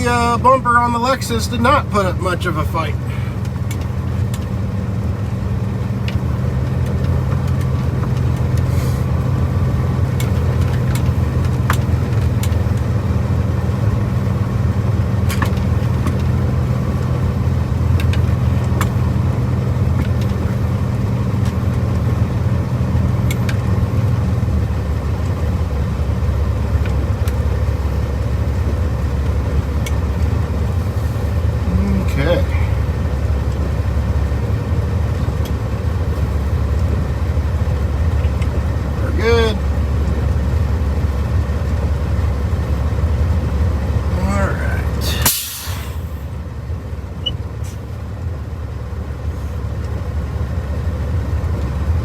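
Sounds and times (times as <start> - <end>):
truck diesel engine drone: 0.0 - 52.0.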